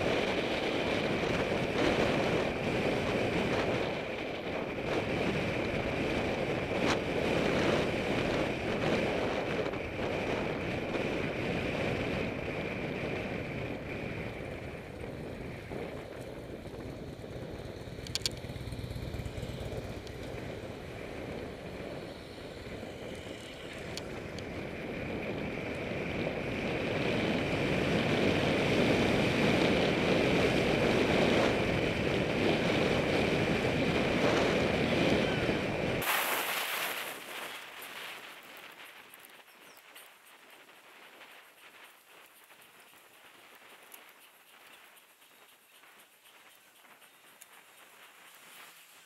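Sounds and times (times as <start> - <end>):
bicycle tyres on asphalt: 0.0 - 49.0
wind rushing over microphone: 0.0 - 49.0.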